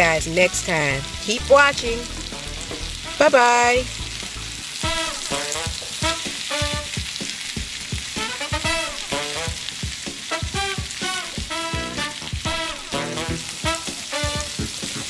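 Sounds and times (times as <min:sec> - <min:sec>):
background music: 0:00.0 - 0:15.0
vegetables sizzling in a skillet: 0:00.0 - 0:15.0.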